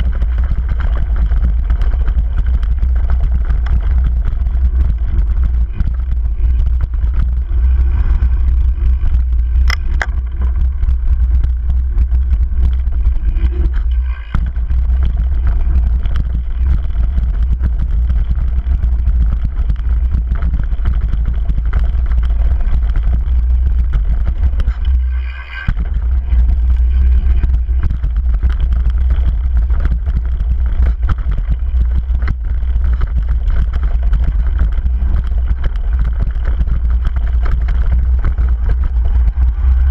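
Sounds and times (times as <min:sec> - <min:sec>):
bike clattering over rocky trail: 0:00.0 - 0:39.9
wind rumble on microphone: 0:00.0 - 0:39.9.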